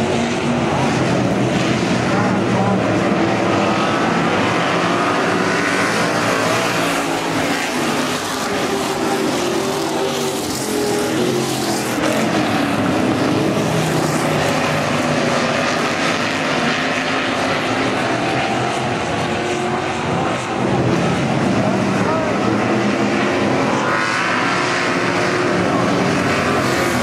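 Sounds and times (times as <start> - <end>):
race car engines passing: 0.0 - 27.0.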